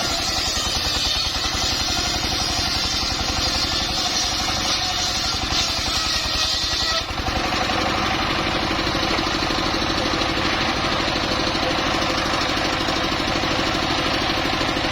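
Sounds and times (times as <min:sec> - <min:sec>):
sawmill engine running: 0:00.0 - 0:14.9.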